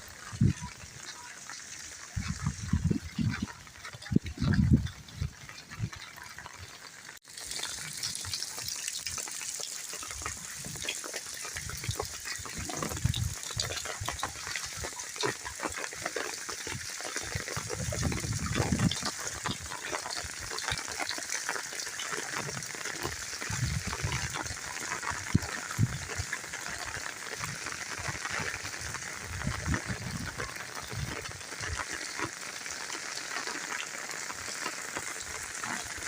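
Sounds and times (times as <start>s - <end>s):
rain patter: 0.0s - 36.0s
rushing water: 0.0s - 36.0s.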